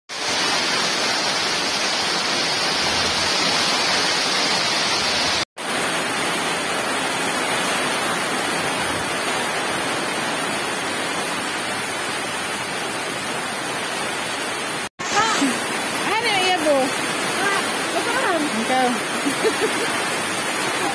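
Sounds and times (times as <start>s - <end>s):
heavy rain on metal roofs: 0.1s - 20.9s.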